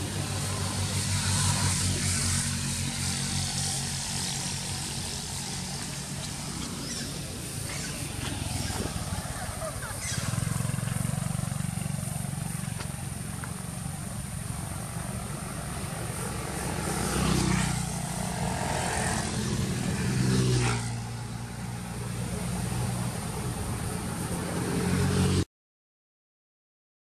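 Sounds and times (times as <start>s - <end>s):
passing traffic engine rumble: 0.0s - 25.4s.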